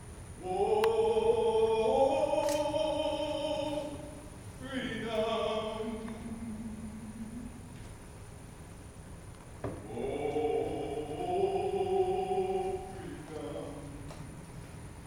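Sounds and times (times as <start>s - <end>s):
group singing a hymn: 0.4s - 7.8s, 9.7s - 14.7s.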